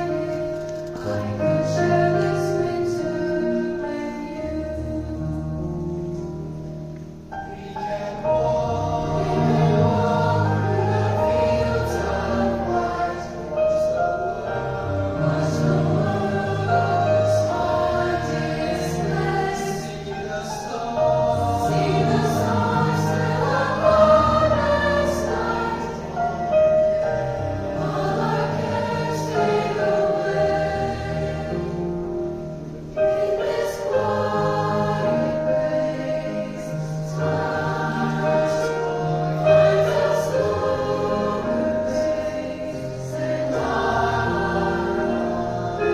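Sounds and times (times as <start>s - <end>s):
choir singing in parts: 0.0s - 45.9s.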